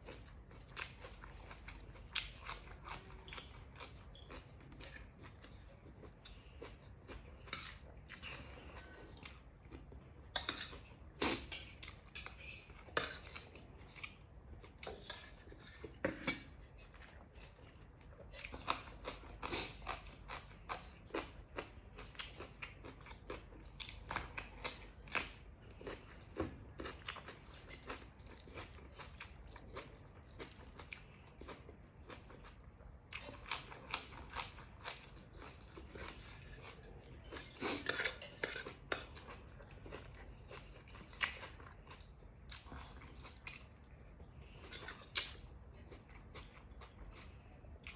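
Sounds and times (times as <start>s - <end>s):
chewing and crunching: 0.0s - 47.9s.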